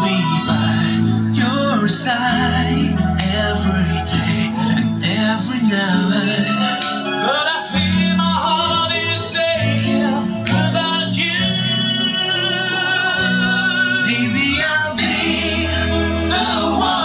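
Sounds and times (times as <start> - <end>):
pop ballad through speakers: 0.0 - 17.0.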